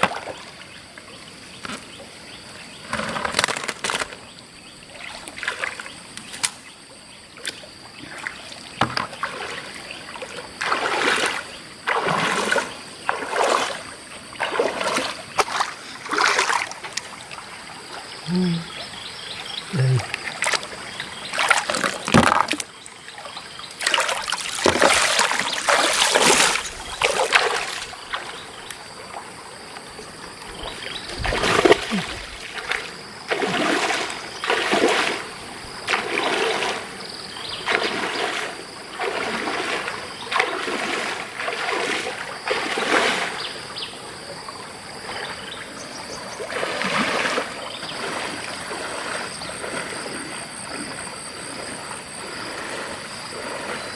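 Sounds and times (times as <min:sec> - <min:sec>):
river water splashing: 0:00.0 - 0:53.9
stream trickling: 0:00.0 - 0:53.9.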